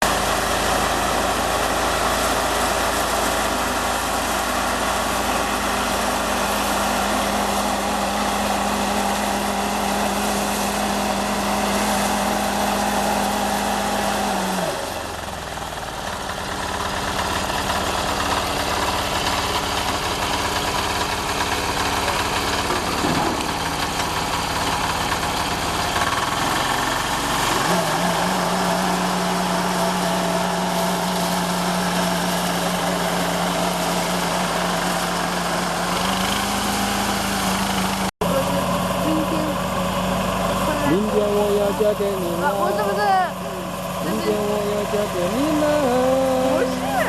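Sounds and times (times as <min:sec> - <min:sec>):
harvester engine with mechanical clatter: 0:00.0 - 0:47.0.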